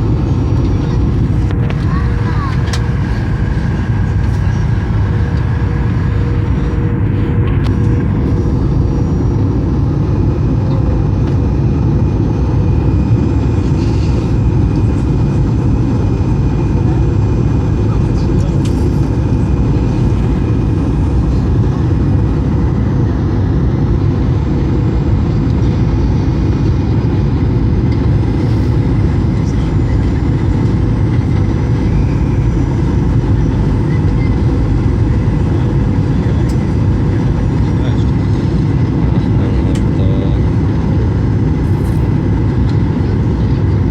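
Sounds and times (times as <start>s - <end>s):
air rushing along fuselage: 0.0s - 43.9s
jet engines in flight: 0.0s - 43.9s.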